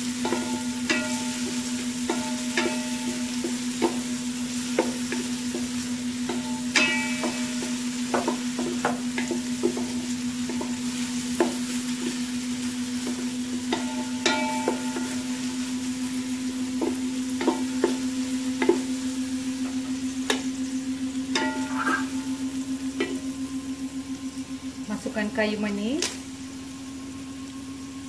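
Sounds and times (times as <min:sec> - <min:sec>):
shallots frying in oil: 0:00.0 - 0:28.0
steady hum: 0:00.0 - 0:28.0.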